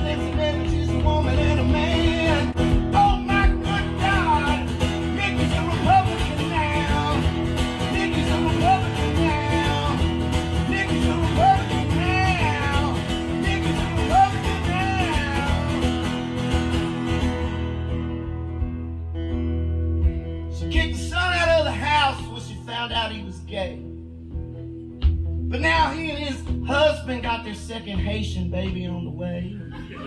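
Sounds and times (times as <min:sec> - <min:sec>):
acoustic guitar strumming: 0:00.0 - 0:30.0
bending guitar melody line: 0:00.0 - 0:30.0.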